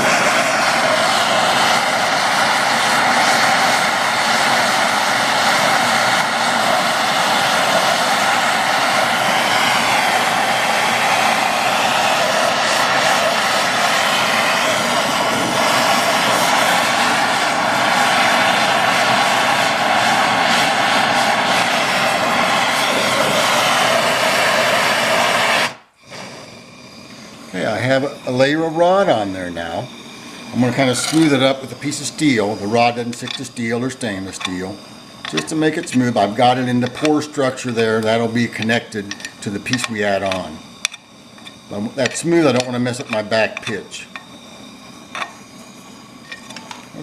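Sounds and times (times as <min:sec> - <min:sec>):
gas torch roaring: 0:00.0 - 0:47.0.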